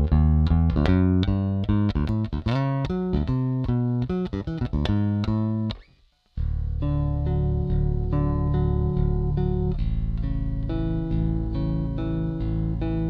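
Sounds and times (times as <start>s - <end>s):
bass chord melody: 0.0s - 5.8s, 6.4s - 13.0s
electric bass walking line: 0.0s - 5.8s, 6.4s - 13.0s.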